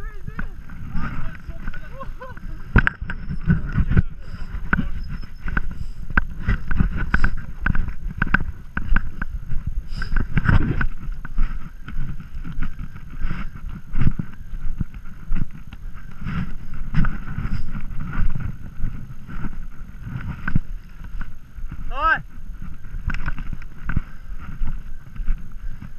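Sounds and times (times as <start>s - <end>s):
bike knocking and rattling: 0.0s - 25.9s
wind rumbling on microphone: 0.0s - 25.9s.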